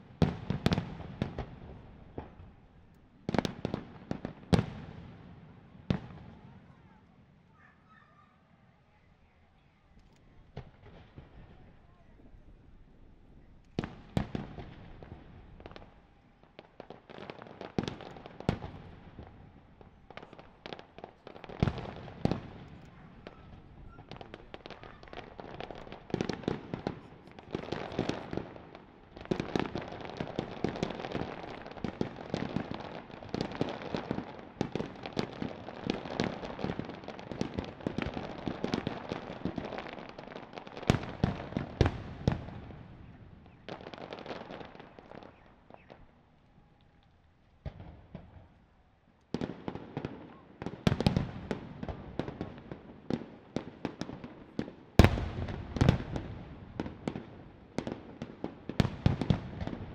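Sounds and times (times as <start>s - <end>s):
fireworks bangs and crackles: 0.0s - 7.9s, 9.6s - 59.9s.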